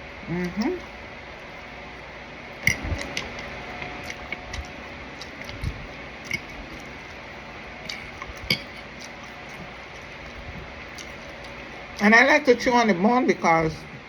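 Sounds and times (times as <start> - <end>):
chewing on chicken wing: 0.3 - 12.1.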